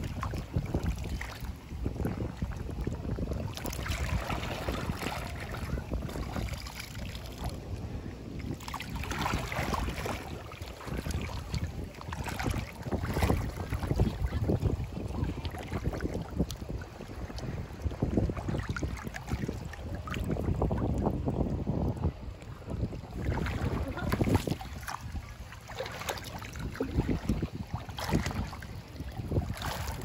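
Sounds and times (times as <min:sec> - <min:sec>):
shallow water splashing: 0:00.0 - 0:30.0
wind rumbling on microphone: 0:00.0 - 0:30.0.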